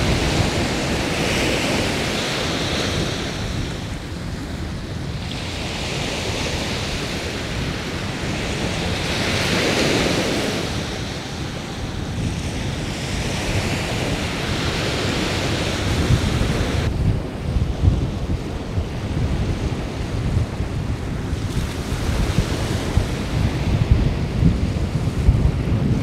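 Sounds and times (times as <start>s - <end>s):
sea waves washing onto shore: 0.0s - 26.0s
wind buffeting microphone: 0.0s - 26.0s.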